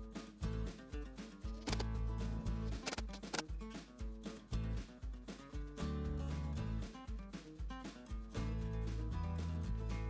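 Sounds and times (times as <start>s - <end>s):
country music with bass and guitar: 0.0s - 10.0s.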